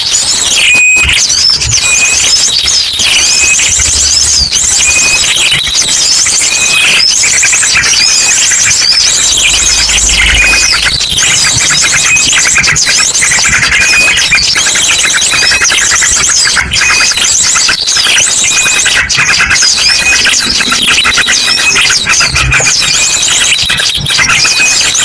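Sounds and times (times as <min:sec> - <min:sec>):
chorus of small birds chirping: 0:00.0 - 0:25.0.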